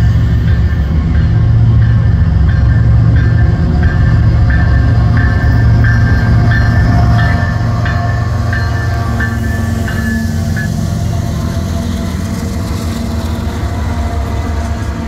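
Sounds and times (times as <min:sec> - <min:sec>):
locomotive bell dinging: 0:00.0 - 0:12.7
diesel locomotive engine drone: 0:00.0 - 0:15.0.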